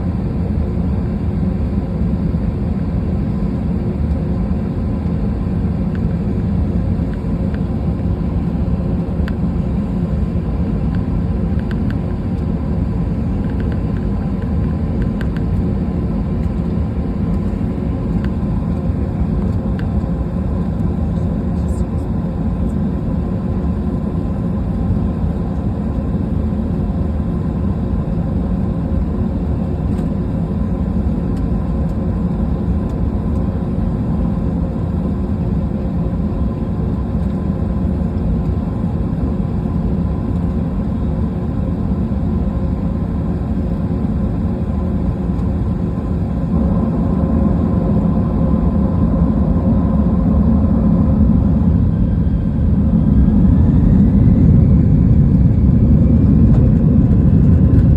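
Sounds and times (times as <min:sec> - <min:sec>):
aircraft engine hum: 0:00.0 - 0:57.9
faint steady whine: 0:00.0 - 0:57.9.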